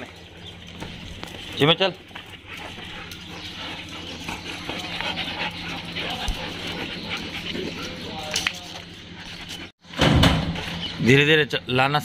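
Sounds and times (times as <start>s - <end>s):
dogs panting: 0.0s - 9.8s.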